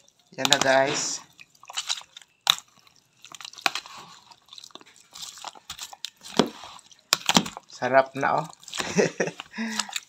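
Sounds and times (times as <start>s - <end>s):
spoon tossing food in a bowl: 0.0s - 10.0s.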